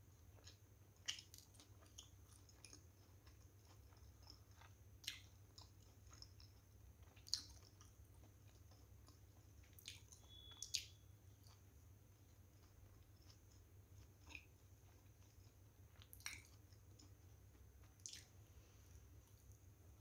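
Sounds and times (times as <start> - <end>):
low steady hum: 0.0 - 20.0
person chewing with wet smacks: 0.1 - 19.7.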